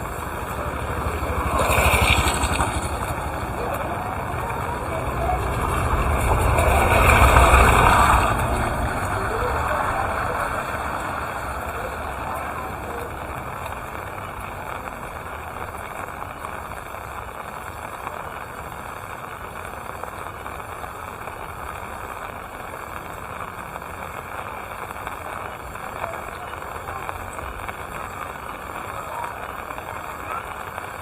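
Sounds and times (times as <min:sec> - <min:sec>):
faint drips and ticks: 0:00.0 - 0:31.0
steady rain falling: 0:00.0 - 0:31.0.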